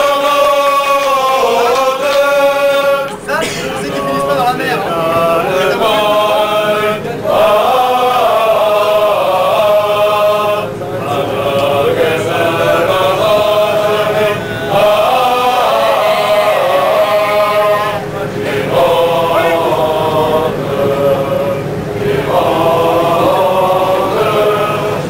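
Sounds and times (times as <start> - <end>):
choir singing chant-like phrases: 0.0 - 25.0.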